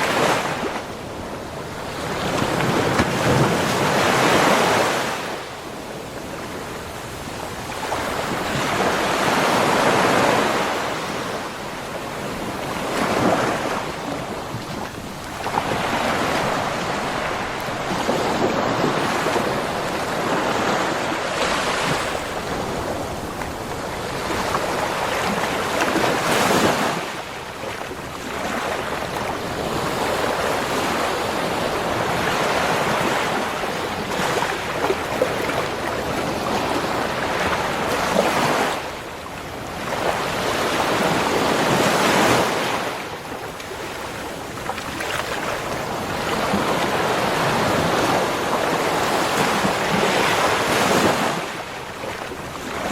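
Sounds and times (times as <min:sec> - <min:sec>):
ocean waves breaking on shore: 0:00.0 - 0:52.9.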